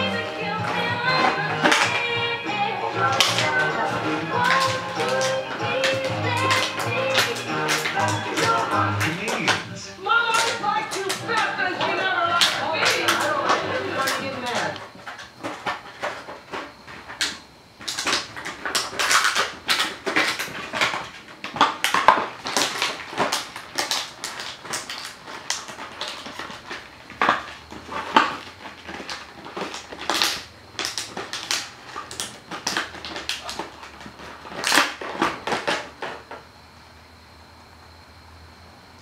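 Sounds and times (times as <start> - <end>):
plastic bottle crinkling: 0.0 - 36.5.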